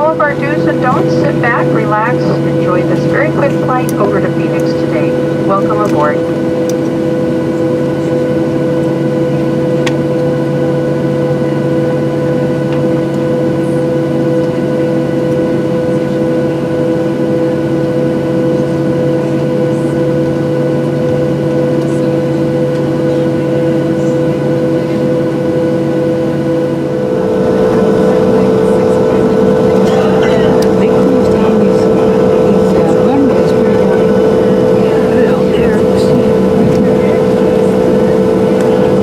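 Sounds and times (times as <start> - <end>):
aircraft cabin engine drone: 0.0 - 39.0.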